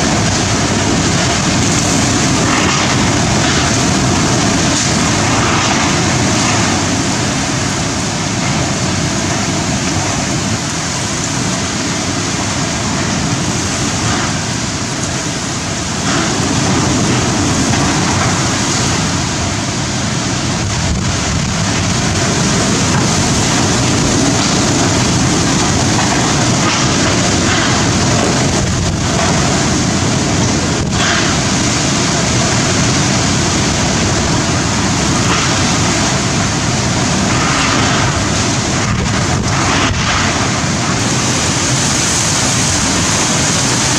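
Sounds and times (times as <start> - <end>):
strong wind: 0.0 - 43.9
very heavy rain: 0.0 - 43.9.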